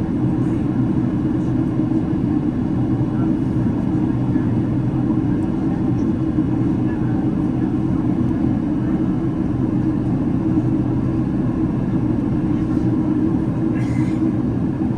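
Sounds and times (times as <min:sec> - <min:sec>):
airplane cabin engine rumble: 0:00.0 - 0:14.9.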